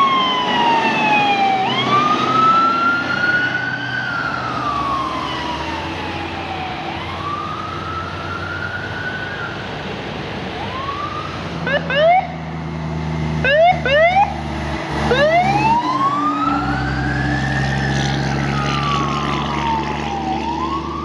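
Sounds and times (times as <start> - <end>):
emergency siren wailing: 0.0 - 21.0
road noise: 0.0 - 21.0
vehicle engine rumble: 0.0 - 21.0.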